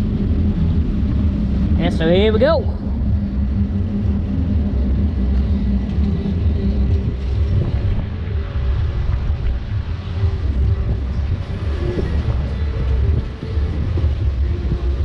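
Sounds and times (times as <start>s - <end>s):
rushing water rumble: 0.0s - 15.0s.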